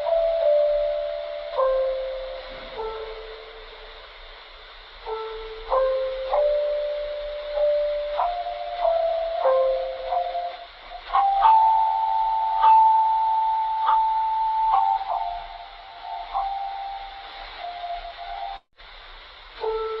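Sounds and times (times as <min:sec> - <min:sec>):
radio-like hiss: 0:00.0 - 0:20.0.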